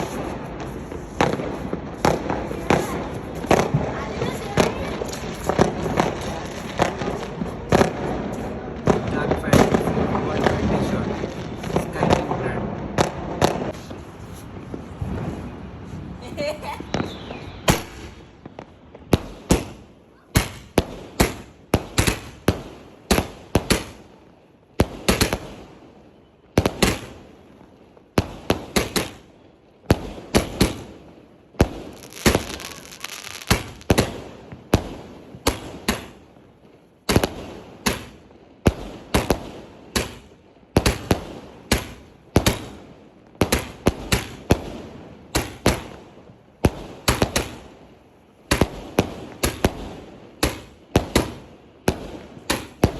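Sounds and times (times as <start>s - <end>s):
firework bangs with echo: 0.0s - 52.9s.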